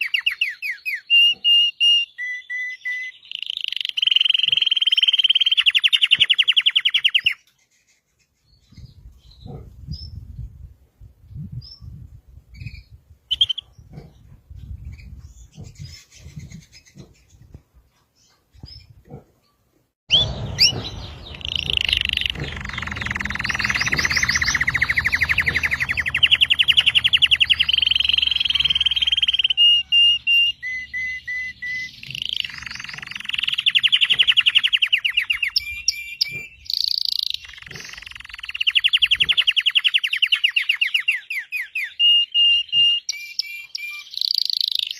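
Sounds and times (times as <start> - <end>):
canary singing trills: 0.0 - 10.4, 11.3 - 44.9.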